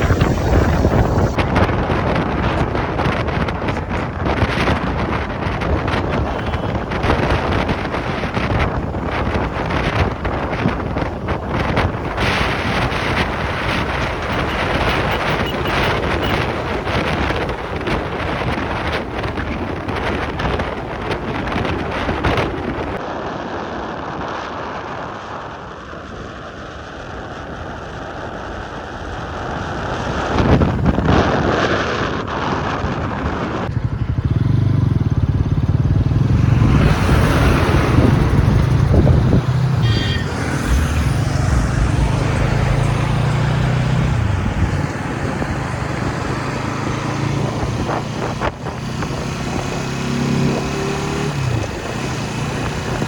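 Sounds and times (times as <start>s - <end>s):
motorcycle engine drone: 0.0s - 23.0s, 25.2s - 53.0s
wind rush and road noise: 0.0s - 53.0s.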